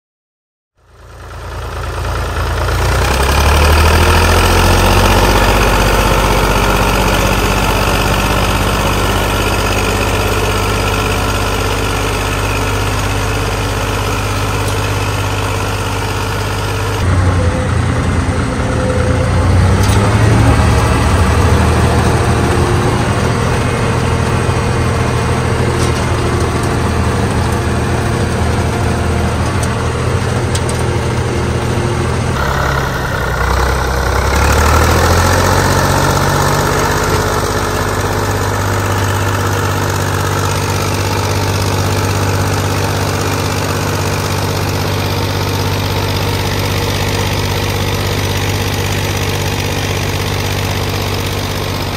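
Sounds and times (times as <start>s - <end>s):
tractor diesel engine running: 0.8s - 51.9s.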